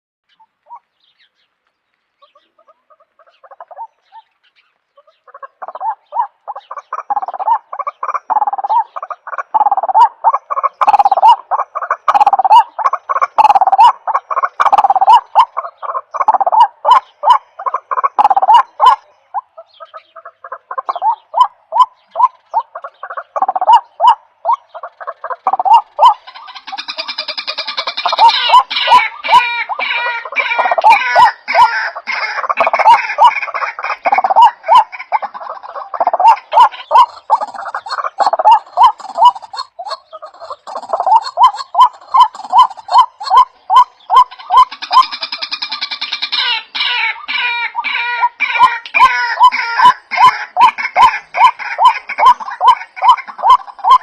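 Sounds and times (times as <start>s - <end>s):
animal rasping calls: 5.0s - 54.0s.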